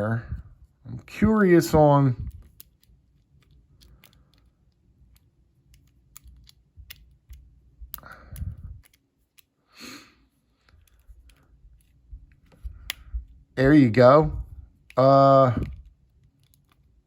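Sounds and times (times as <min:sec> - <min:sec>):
rustling handling noises: 0:00.0 - 0:09.6, 0:10.2 - 0:17.0.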